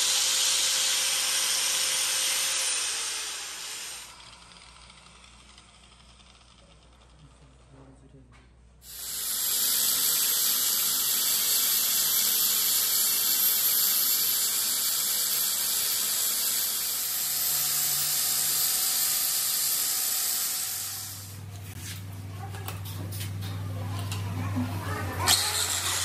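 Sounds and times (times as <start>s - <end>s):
angle grinder grinding steel: 0.0s - 7.4s, 8.8s - 21.5s, 25.2s - 26.0s.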